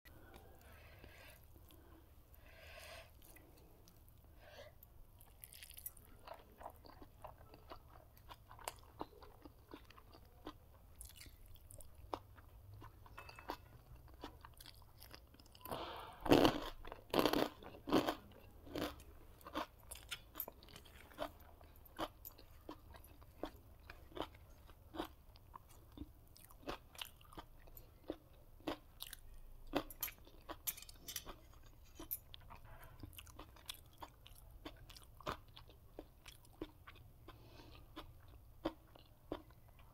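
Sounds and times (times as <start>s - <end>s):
chewing and crunching food: 0.1s - 39.9s.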